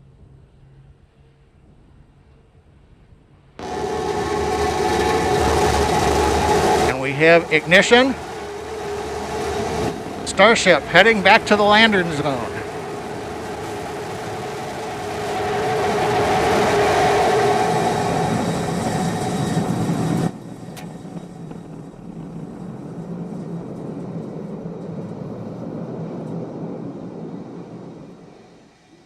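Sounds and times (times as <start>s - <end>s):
rocket engines rumbling: 3.6s - 28.9s.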